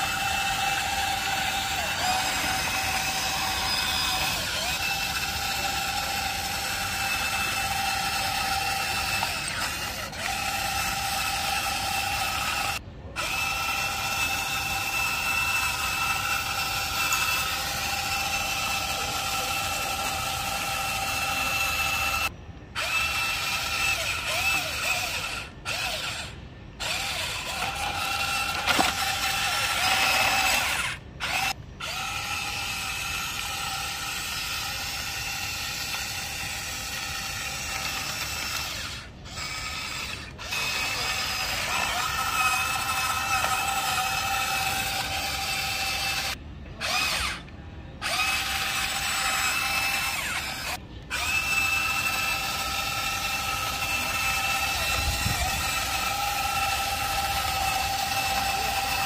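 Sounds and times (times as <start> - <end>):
toy excavator motors whining: 0.0 - 59.0.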